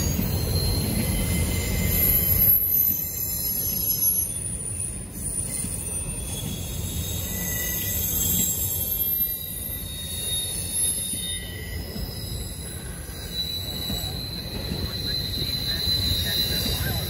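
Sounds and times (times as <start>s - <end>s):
freight train wheels rumbling: 0.0s - 17.0s
high-pitched wheel squeal: 0.0s - 17.0s.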